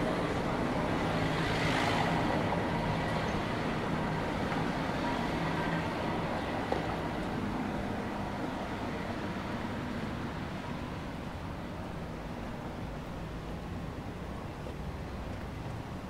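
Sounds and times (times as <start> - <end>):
hum of traffic: 0.0 - 16.0.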